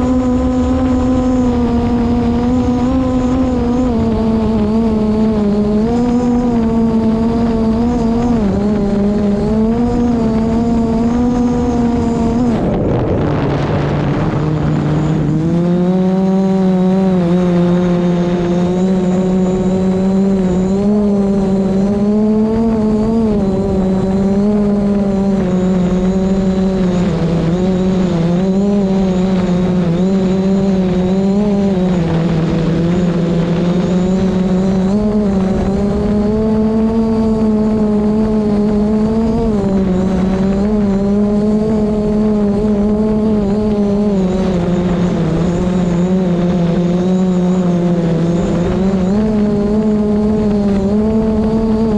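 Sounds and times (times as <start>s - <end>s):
drone propellers whining: 0.0s - 51.9s
wind noise rush: 0.0s - 51.9s.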